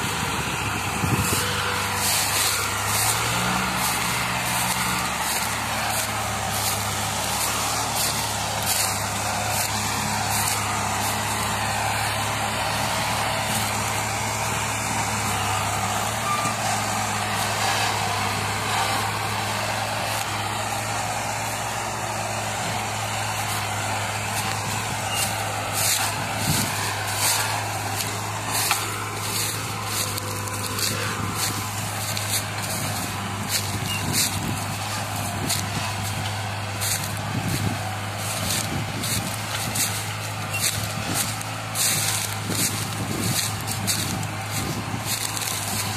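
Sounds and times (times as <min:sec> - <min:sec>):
tractor diesel engines under load: 0:00.0 - 0:45.9.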